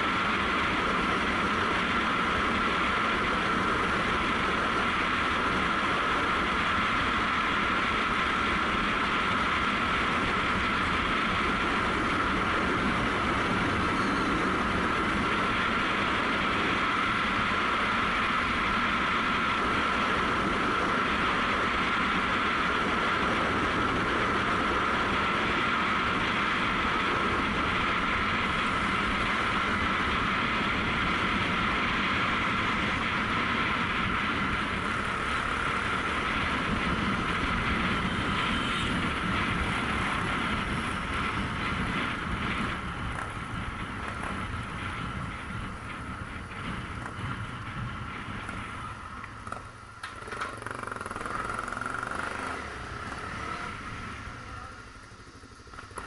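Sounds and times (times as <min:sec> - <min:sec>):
wind rushing over microphone: 0:00.0 - 0:50.0
motorcycle engine running: 0:00.0 - 0:56.0.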